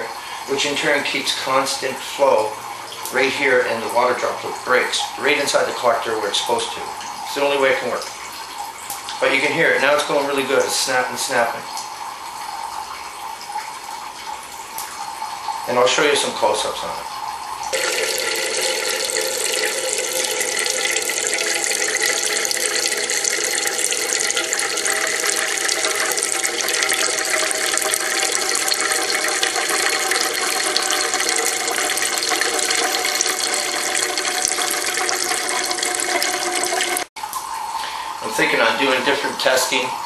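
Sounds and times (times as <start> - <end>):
water trickling into cans: 0.0 - 40.0.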